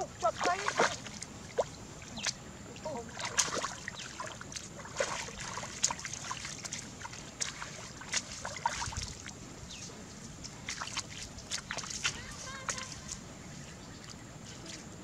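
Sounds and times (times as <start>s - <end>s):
river water sloshing: 0.0s - 15.0s
small sharp splashes: 0.2s - 13.2s.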